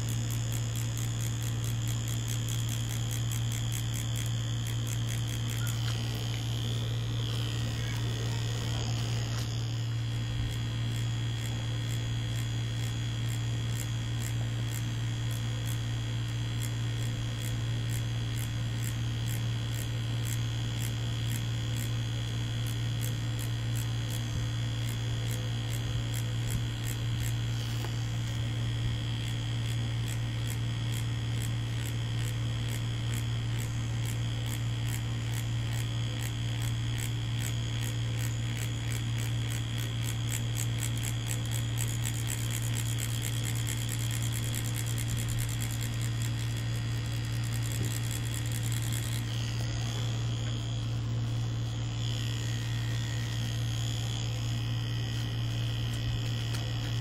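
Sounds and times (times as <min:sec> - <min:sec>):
tattoo machine buzzing: 0:00.0 - 0:57.0.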